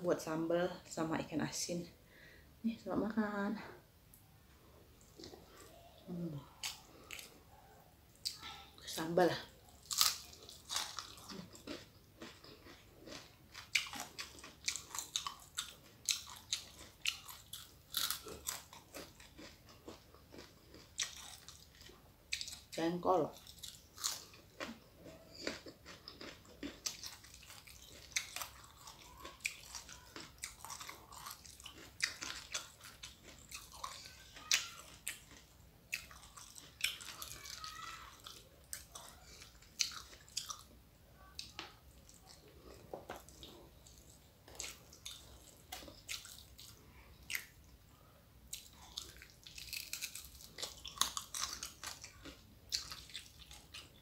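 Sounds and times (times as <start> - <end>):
person chewing crunchy food: 5.0 - 7.5, 9.6 - 54.0.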